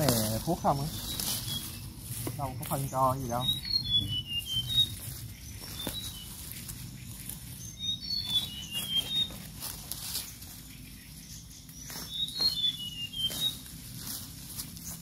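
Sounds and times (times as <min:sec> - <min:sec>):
rustling grass and dry leaves: 0:00.0 - 0:15.0
bird whistling song: 0:00.6 - 0:02.0, 0:02.6 - 0:13.8.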